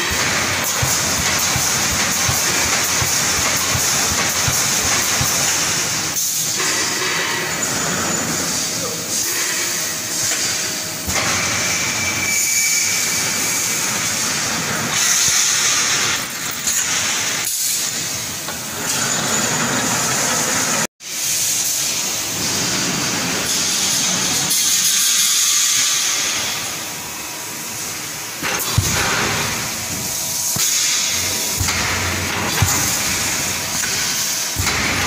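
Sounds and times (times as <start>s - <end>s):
welding machine hissing: 0.0s - 35.0s.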